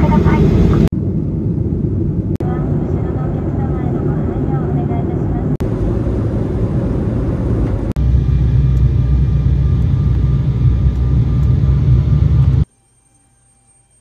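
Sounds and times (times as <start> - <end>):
airliner cabin engine drone: 0.0 - 12.7.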